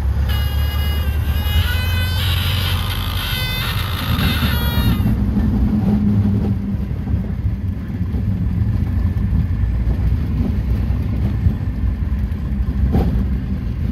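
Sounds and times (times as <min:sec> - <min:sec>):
wind noise: 0:00.0 - 0:12.1
small plane engine rumbling: 0:00.0 - 0:13.9.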